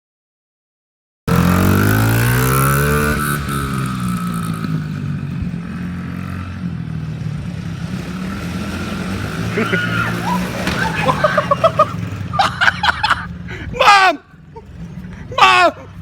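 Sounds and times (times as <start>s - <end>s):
motorcycle engine revving: 1.3s - 16.0s.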